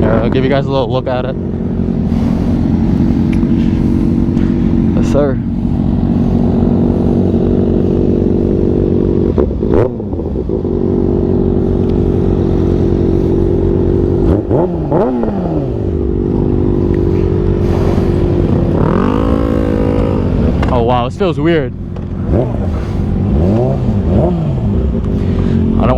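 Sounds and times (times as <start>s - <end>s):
motorcycle engine idling and revving: 0.0s - 25.9s.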